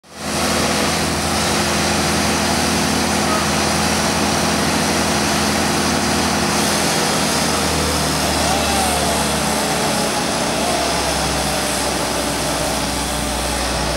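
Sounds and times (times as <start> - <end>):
truck engine running: 0.0 - 13.9.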